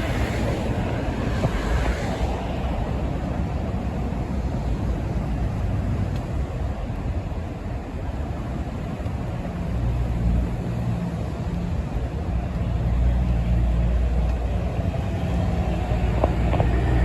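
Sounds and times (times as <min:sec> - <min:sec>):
tyre noise of highway traffic: 0:00.0 - 0:17.0.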